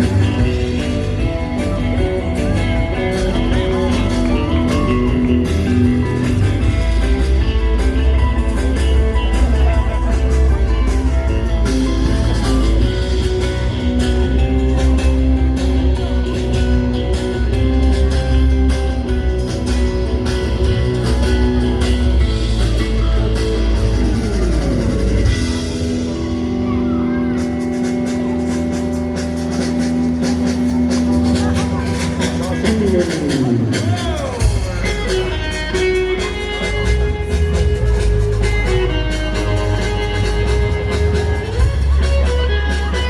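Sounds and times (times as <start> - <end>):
guitar-led music with beat: 0.0 - 43.0
heavy bass: 0.0 - 43.0.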